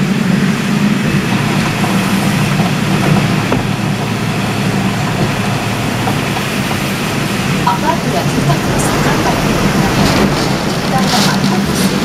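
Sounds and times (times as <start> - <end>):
typhoon wind and rain: 0.0 - 12.0.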